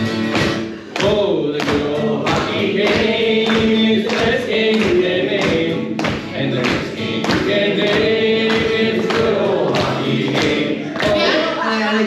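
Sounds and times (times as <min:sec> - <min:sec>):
acoustic guitar strumming: 0:00.0 - 0:11.7
people singing: 0:00.4 - 0:12.0.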